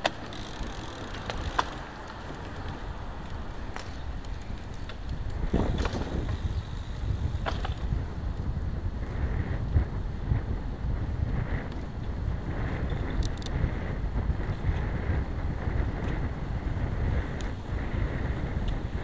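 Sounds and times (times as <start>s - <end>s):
tyre and road rumble: 0.0s - 19.0s
wind rushing over microphone: 0.0s - 19.0s.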